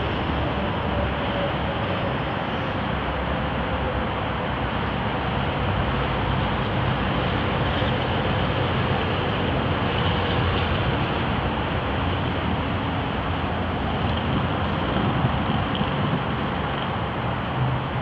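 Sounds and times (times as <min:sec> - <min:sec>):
outdoor background rumble: 0:00.0 - 0:18.0.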